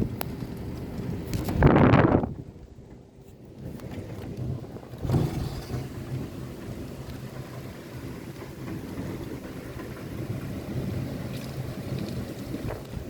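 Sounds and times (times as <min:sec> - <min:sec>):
rain drumming on window glass: 0:00.0 - 0:13.0.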